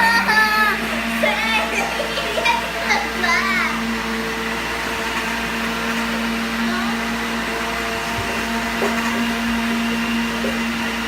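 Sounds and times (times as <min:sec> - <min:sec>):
electric blender running: 0:00.0 - 0:11.0.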